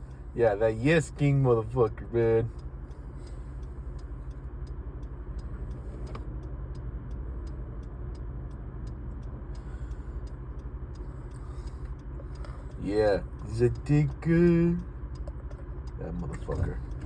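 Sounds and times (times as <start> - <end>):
car road noise rumble: 0.0 - 17.0
faint regular ticking: 0.0 - 17.0.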